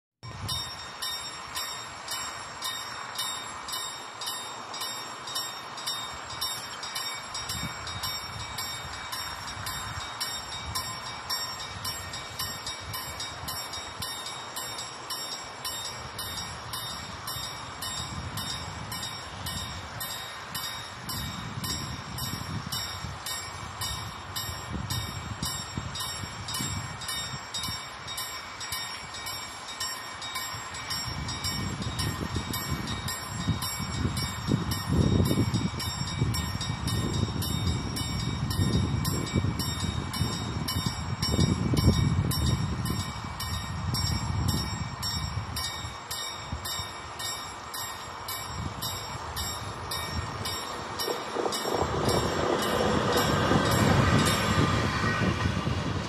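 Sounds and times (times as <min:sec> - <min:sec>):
level crossing warning bell ringing: 0:00.2 - 0:56.0.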